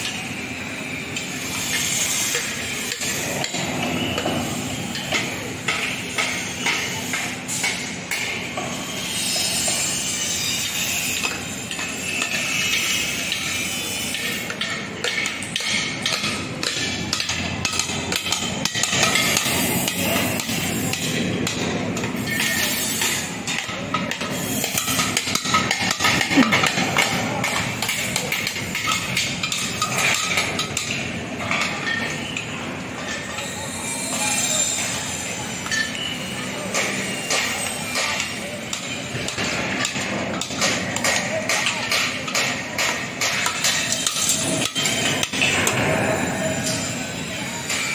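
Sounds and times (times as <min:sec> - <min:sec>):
continuous background noise: 0:00.0 - 0:47.9.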